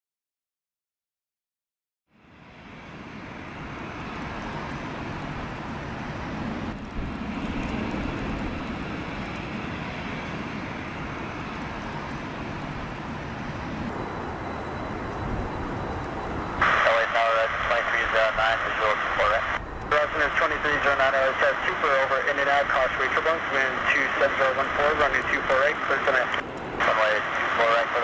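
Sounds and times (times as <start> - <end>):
faint high whine: 2.1 - 28.0
jet engines rumbling: 2.2 - 28.0.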